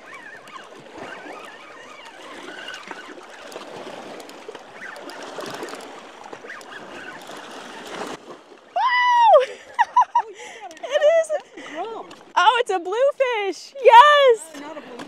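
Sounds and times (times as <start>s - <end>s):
water splashing and lapping: 0.0s - 13.8s.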